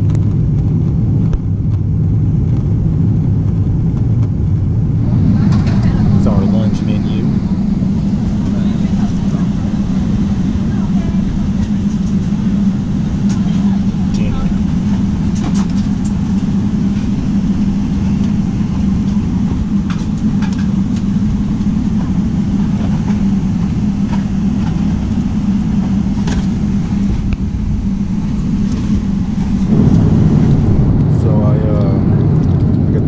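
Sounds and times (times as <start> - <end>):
airplane cabin engine drone: 0.0 - 33.0.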